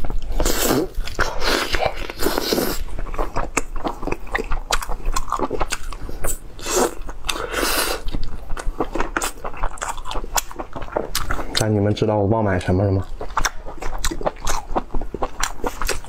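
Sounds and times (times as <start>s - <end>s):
person chewing meat: 0.0s - 11.8s, 12.6s - 16.0s.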